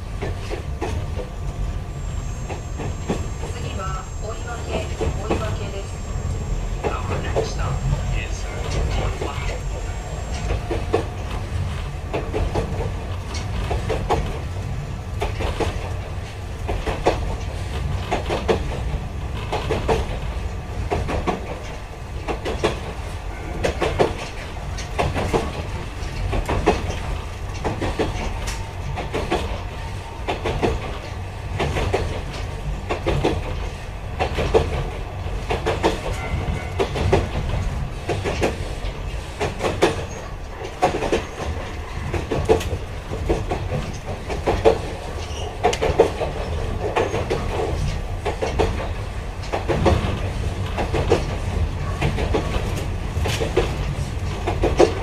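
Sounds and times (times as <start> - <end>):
wheels clicking over rail joints: 0.0 - 6.0, 6.6 - 55.0
train rumbling: 0.0 - 55.0.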